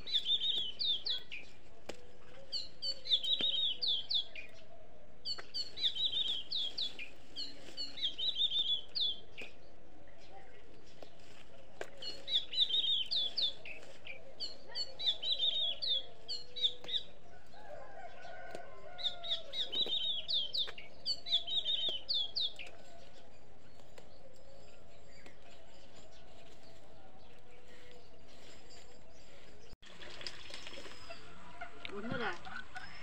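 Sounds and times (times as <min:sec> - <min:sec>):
songbird chirping: 0:00.0 - 0:33.0.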